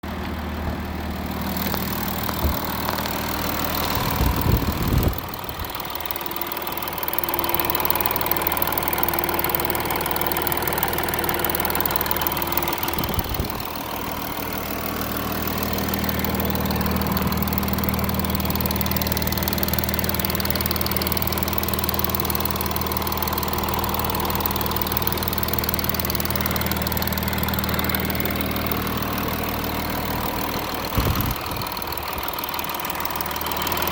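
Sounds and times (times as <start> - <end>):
low engine bumps: 0.0 - 6.9, 10.7 - 33.9
diesel engine idling: 0.0 - 33.9.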